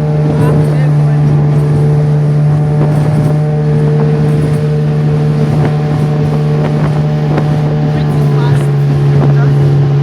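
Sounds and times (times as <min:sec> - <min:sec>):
motorboat engine droning: 0:00.0 - 0:10.0.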